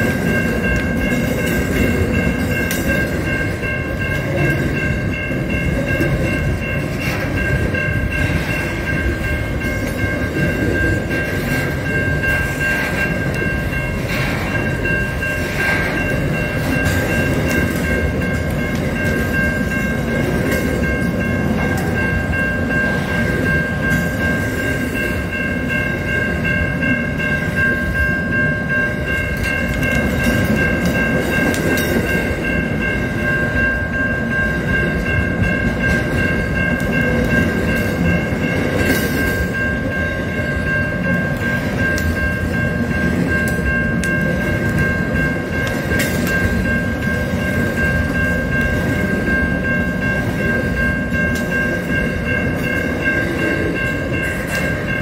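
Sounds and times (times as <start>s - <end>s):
freight train wagons rumbling: 0.0s - 55.0s.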